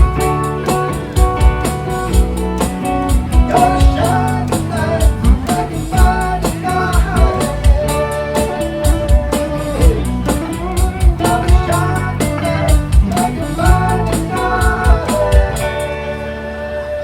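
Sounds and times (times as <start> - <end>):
drum kit beat: 0.0 - 16.1
bass guitar: 0.0 - 17.0
guitar lead line: 0.0 - 17.0.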